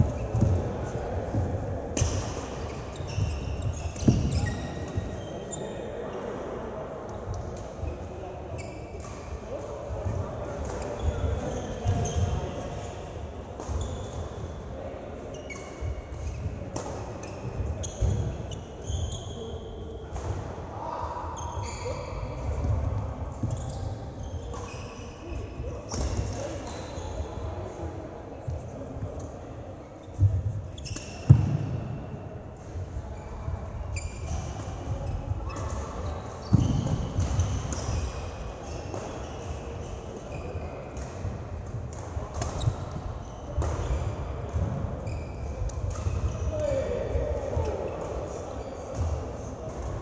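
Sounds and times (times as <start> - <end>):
sneakers squeaking on court floor: 0.0 - 5.9, 7.8 - 14.6, 15.3 - 20.4, 21.3 - 27.4, 29.8 - 32.3, 33.2 - 50.0.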